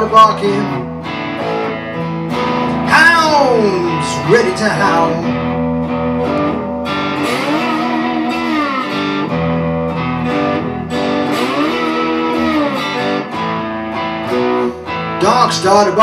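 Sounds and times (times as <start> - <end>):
electric guitar blues fill: 0.0 - 16.0.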